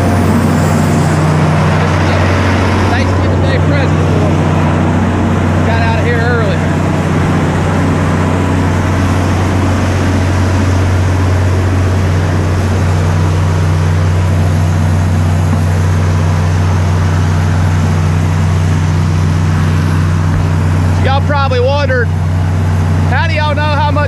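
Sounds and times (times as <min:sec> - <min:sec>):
drilling rig engine drone: 0:00.0 - 0:24.0
water gushing from pipe: 0:00.0 - 0:24.0.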